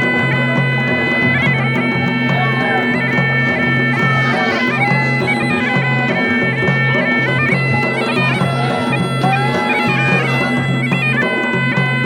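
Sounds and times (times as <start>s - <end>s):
bagpipe melody over drone: 0.0s - 12.0s.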